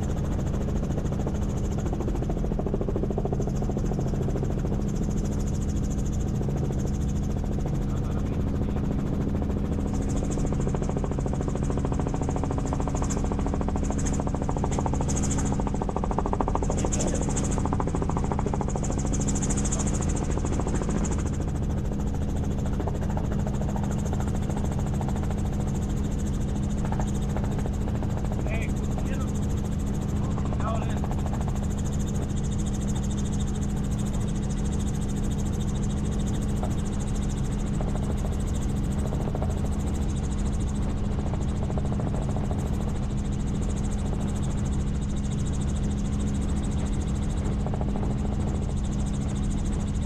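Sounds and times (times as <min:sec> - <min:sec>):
helicopter cabin drone: 0:00.0 - 0:50.0.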